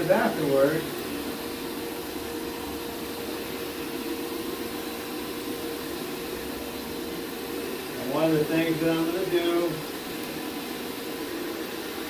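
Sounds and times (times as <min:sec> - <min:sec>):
carpet machine motor humming: 0:00.0 - 0:12.0.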